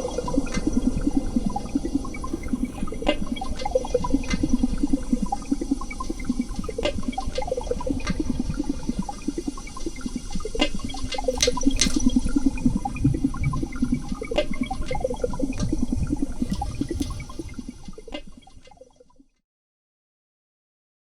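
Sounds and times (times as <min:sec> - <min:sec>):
water bubbling and gurgling: 0:00.0 - 0:18.0.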